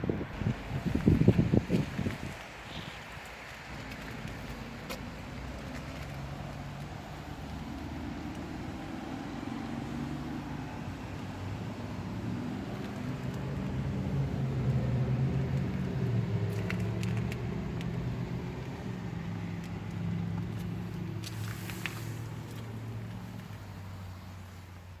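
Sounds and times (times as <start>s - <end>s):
diesel engine running: 3.6s - 24.4s.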